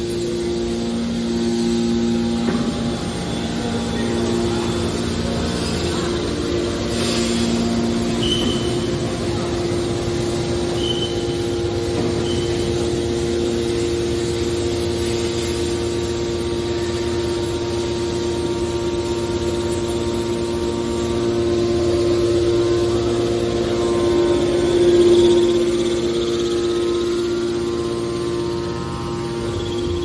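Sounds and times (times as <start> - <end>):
hydraulic baler machine hum: 0.0 - 30.0.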